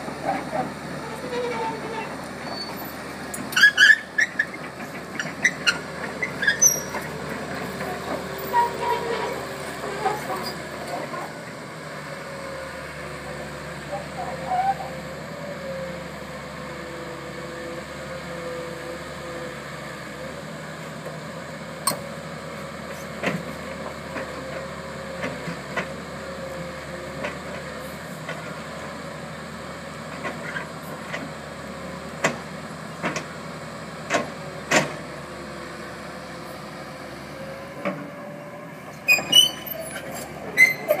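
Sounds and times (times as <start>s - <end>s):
excavator engine running: 0.0s - 41.0s.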